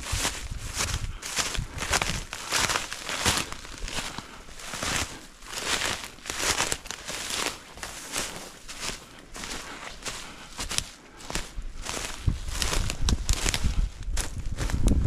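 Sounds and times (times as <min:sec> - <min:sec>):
hiker footsteps crunching: 0:00.0 - 0:15.0.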